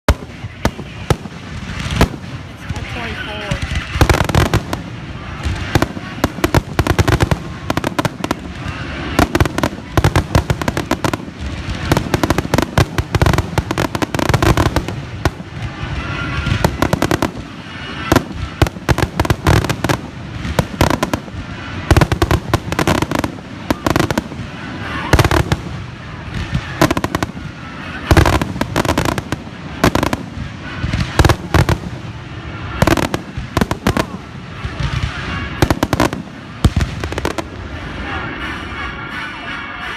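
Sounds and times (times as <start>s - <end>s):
fireworks booming and cracking: 0.0s - 38.7s.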